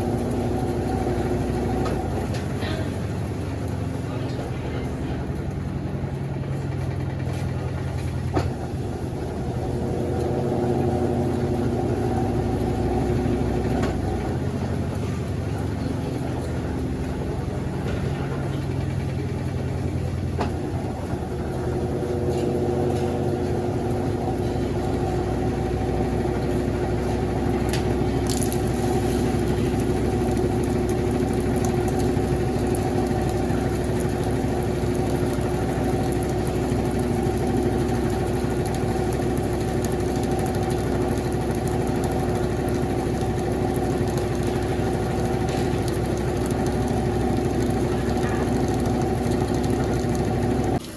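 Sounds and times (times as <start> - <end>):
washing machine draining and spinning: 0.0 - 50.9.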